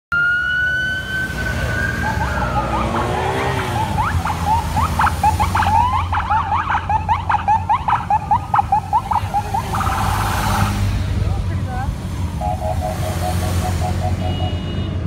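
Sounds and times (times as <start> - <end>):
emergency vehicle siren: 0.1 - 10.8, 12.2 - 15.0.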